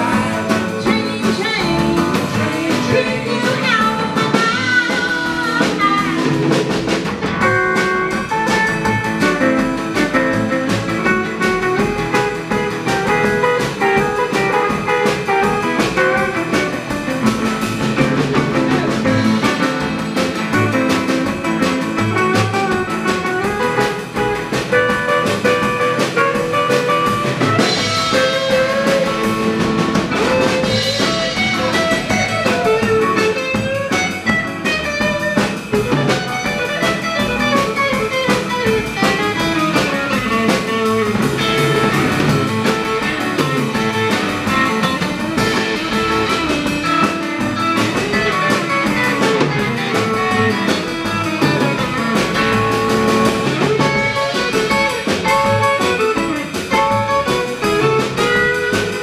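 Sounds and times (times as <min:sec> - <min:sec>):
band playing live: 0:00.0 - 0:59.0.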